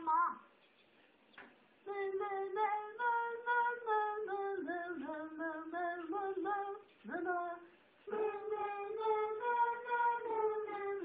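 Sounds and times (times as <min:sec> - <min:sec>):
woman singing slow melody: 0:01.8 - 0:11.0.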